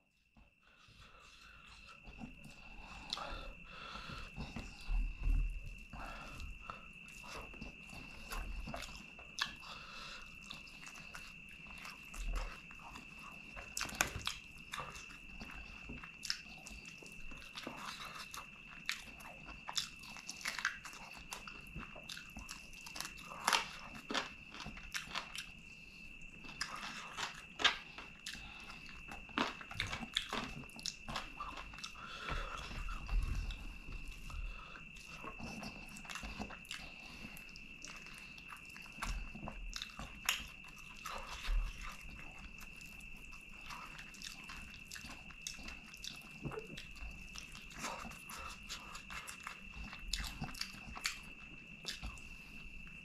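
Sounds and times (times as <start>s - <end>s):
chewing: 0.6s - 53.0s.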